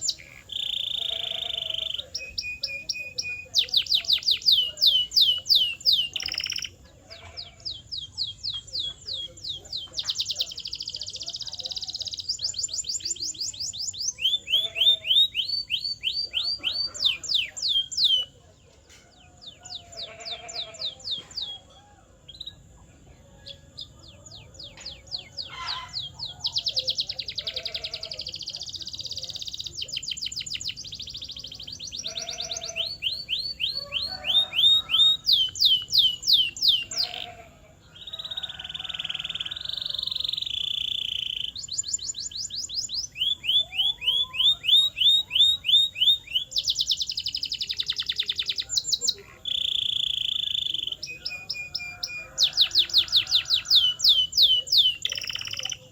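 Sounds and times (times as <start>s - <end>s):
canary singing: 0.0s - 55.9s.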